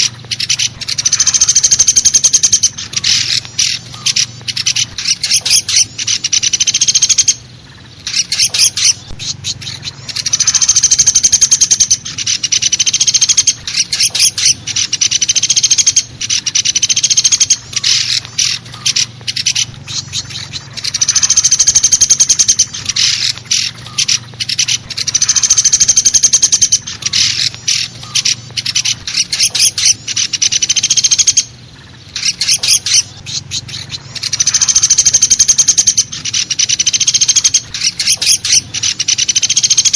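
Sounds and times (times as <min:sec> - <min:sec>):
faint low hum: 0:00.0 - 0:39.9
woodpecker trilling rattle calls: 0:00.0 - 0:39.9.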